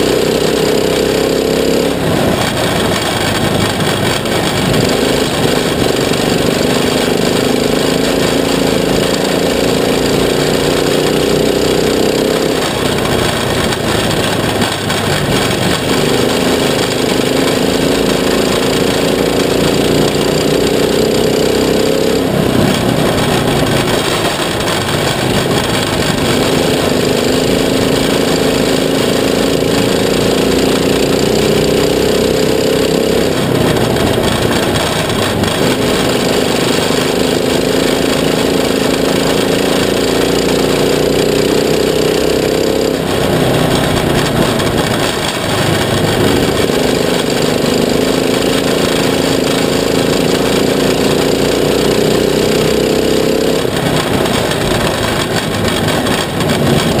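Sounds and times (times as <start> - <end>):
constant rushing noise: 0.0 - 57.0
kart engine revving: 0.0 - 57.0.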